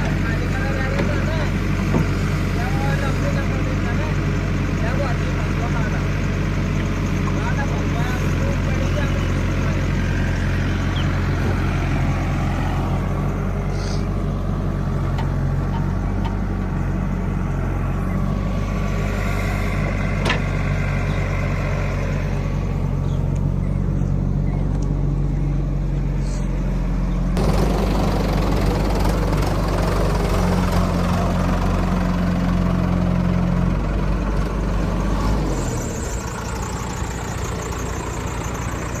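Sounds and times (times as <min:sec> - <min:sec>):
heavy machinery diesel engine: 0:00.0 - 0:39.0.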